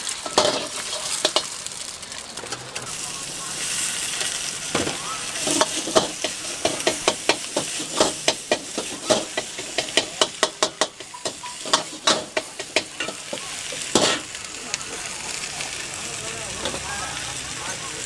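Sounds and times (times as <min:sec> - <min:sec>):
oil sizzling: 0:00.0 - 0:18.0
metal ladle scraping wok: 0:00.1 - 0:14.4, 0:16.5 - 0:17.0.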